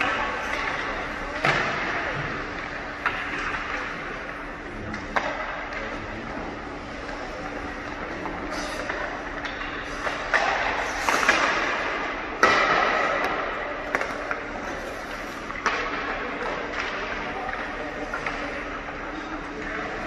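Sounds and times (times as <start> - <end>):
hockey sticks knocking puck: 0.0 - 20.0.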